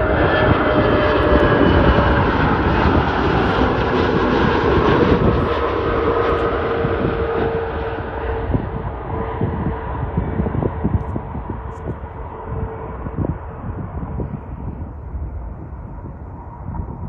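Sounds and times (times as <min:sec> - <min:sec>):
airliner roaring overhead: 0:00.0 - 0:17.0.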